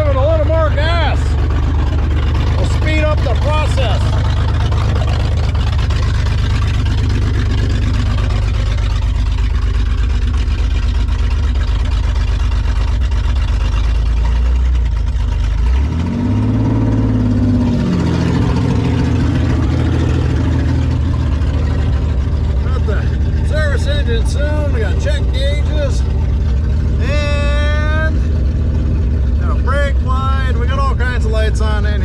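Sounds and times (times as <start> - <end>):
loud engine revving: 0.0 - 32.0.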